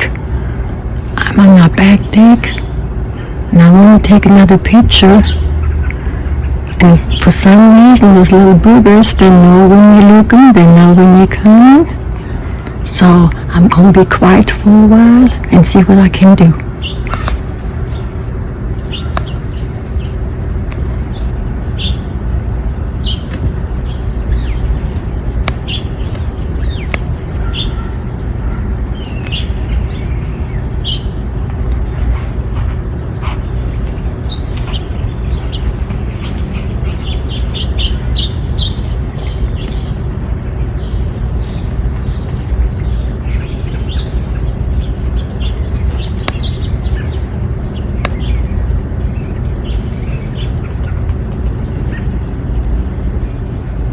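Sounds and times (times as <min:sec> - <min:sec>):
small birds chirping: 0:00.0 - 0:53.9
steady low rumble: 0:00.0 - 0:53.9.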